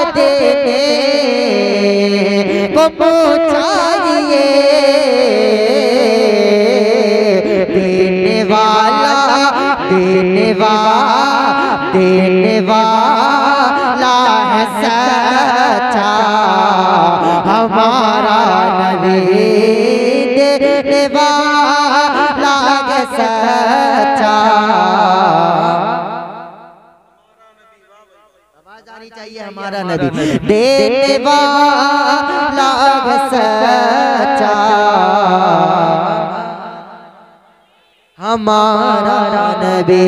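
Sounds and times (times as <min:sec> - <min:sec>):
man singing into a microphone: 0:00.0 - 0:37.5, 0:38.2 - 0:40.0.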